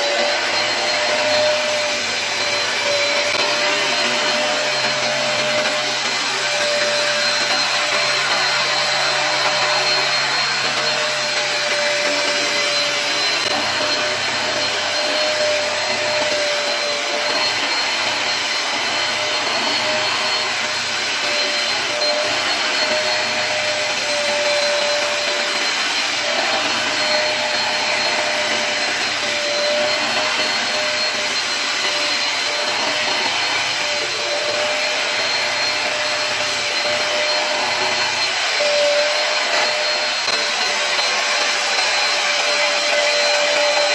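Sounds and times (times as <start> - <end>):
carpet cleaner running: 0.0 - 43.9.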